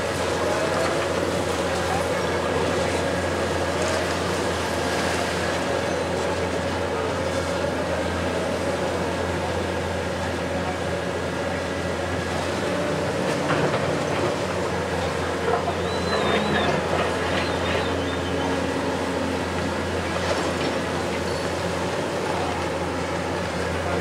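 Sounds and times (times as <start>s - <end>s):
demolition excavator running: 0.0s - 24.0s.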